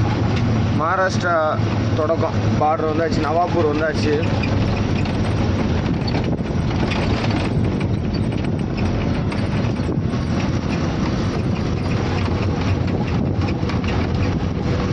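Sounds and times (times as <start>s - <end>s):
cab rattling: 0.0s - 14.9s
lorry diesel engine running: 0.0s - 14.9s.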